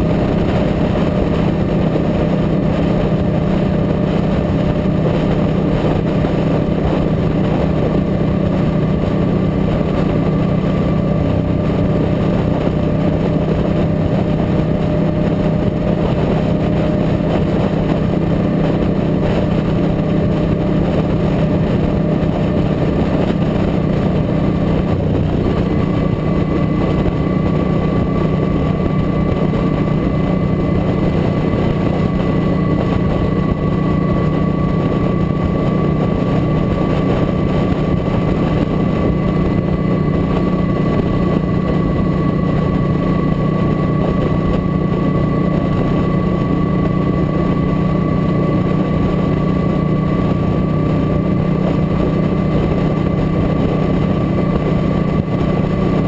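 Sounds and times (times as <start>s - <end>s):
motorcycle engine cruising: 0.0s - 56.0s
road noise: 0.0s - 56.0s
wind noise on microphone: 0.0s - 56.0s.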